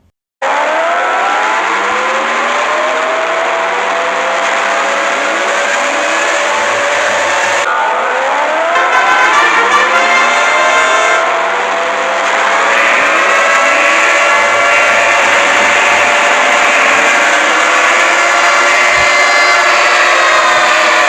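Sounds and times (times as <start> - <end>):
warning sirens wailing: 0.4 - 21.0.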